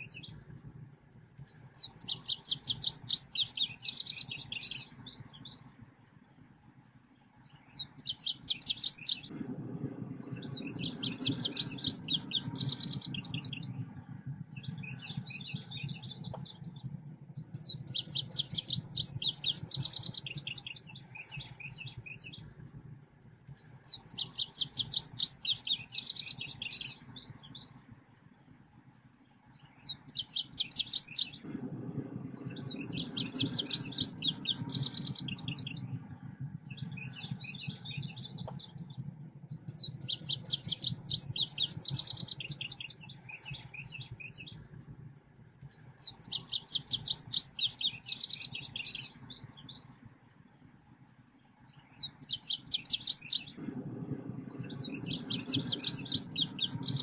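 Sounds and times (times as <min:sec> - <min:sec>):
songbird chattering song: 0:00.0 - 0:00.5, 0:01.4 - 0:06.1, 0:07.2 - 0:09.4, 0:10.2 - 0:22.6, 0:23.4 - 0:28.2, 0:29.2 - 0:31.5, 0:32.4 - 0:44.8, 0:45.6 - 0:50.6, 0:51.4 - 0:57.0
low steady hum: 0:00.0 - 0:57.0.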